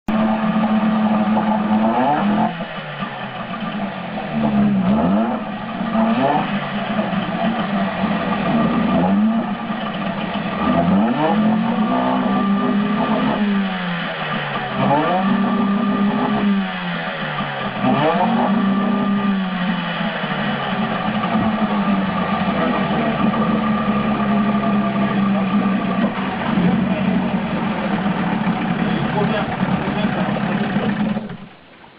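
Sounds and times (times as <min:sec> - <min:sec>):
outboard motor revving: 0:00.1 - 0:31.6.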